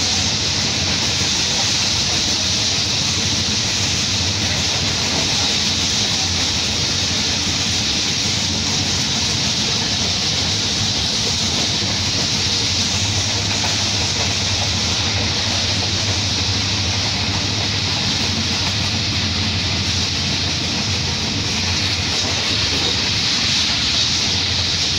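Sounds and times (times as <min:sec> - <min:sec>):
rush of air: 0:00.0 - 0:24.9
train wheels rumbling on rails: 0:00.0 - 0:24.9.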